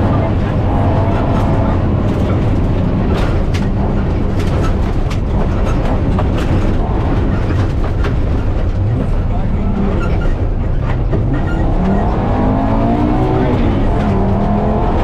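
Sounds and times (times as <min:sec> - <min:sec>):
car engine: 0:00.0 - 0:15.0
low rumble of tyres and drivetrain: 0:00.0 - 0:15.0.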